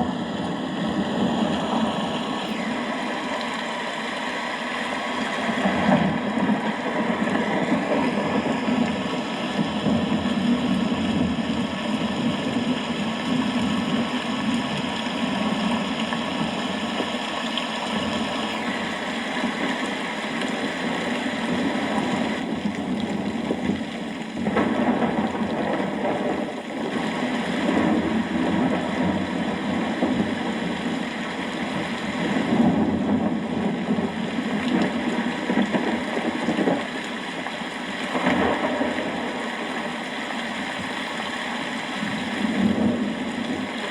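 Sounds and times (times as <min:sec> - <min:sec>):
steady rain falling: 0:00.0 - 0:43.9
thunder rumbling: 0:05.4 - 0:17.2, 0:17.9 - 0:37.0, 0:38.0 - 0:41.0, 0:42.0 - 0:43.9.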